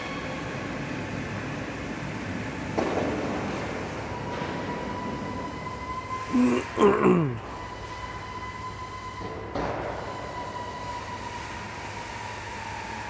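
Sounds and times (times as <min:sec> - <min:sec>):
thin steady whine: 0:00.0 - 0:13.0.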